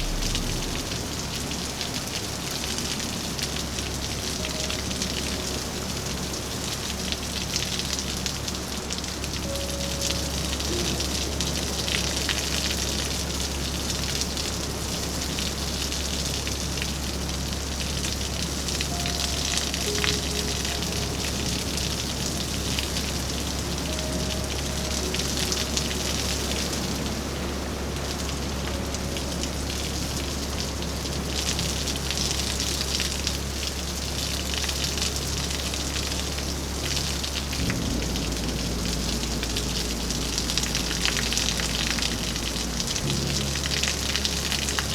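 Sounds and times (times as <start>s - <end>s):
rain falling: 0.0s - 44.9s
raindrops pattering on surfaces: 0.0s - 44.9s.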